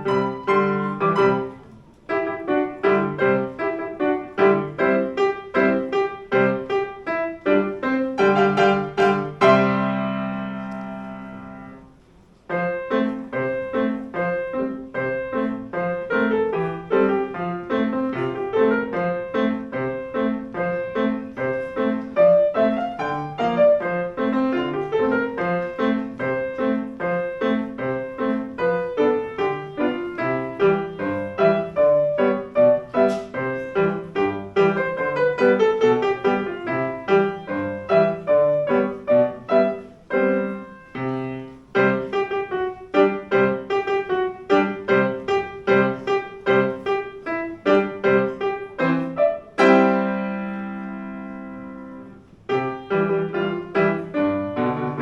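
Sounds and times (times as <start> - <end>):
piano playing a march: 0.0 - 55.0.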